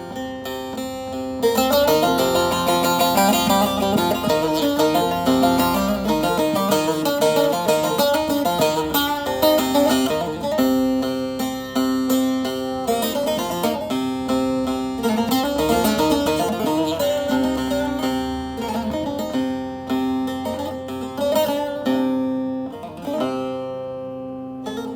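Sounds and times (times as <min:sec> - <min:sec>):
plucked string instrument melody: 0:00.0 - 0:24.9.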